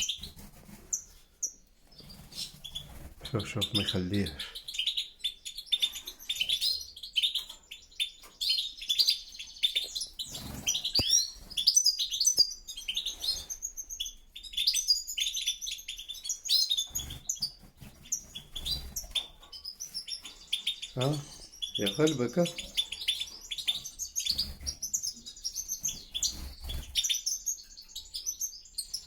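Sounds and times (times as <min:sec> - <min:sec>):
goldfinches twittering and trilling: 0:00.0 - 0:29.0.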